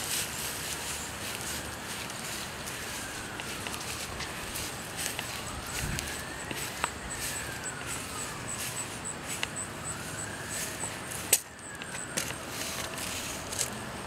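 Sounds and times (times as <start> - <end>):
steps on paved path: 0.0 - 13.9.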